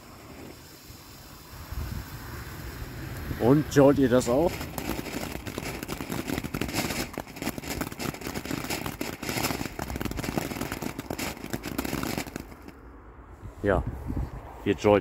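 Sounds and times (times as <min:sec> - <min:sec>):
firework fountain hissing and crackling: 0:00.0 - 0:12.9.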